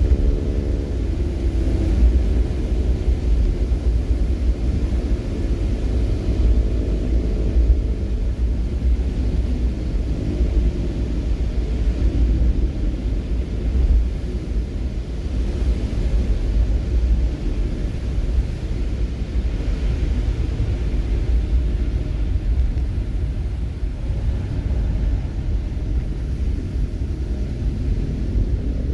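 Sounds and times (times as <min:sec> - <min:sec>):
vehicle engine and road noise: 0:00.0 - 0:28.9.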